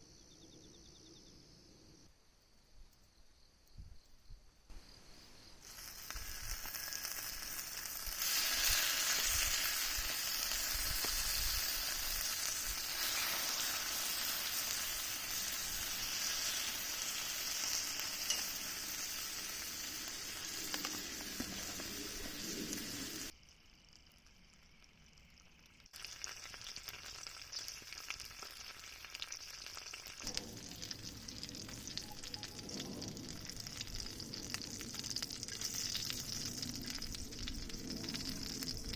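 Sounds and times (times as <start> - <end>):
food sizzling on a grill: 5.3 - 38.9.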